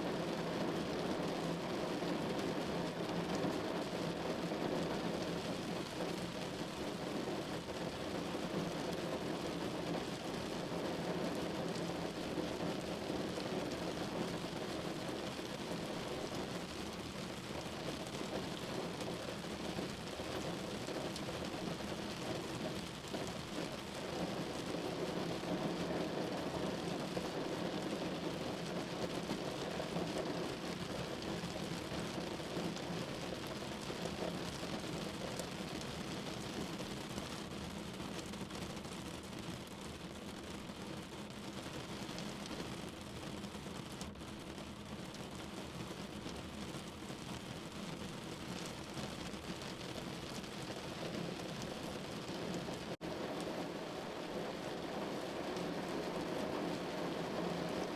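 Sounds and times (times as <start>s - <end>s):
rain on a window pane: 0.0s - 57.9s.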